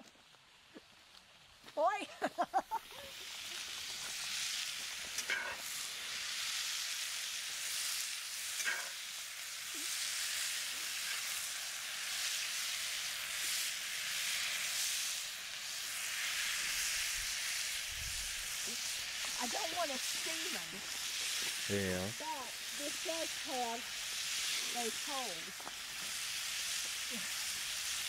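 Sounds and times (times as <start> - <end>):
vegetables and sausage sizzling: 0.0 - 28.0.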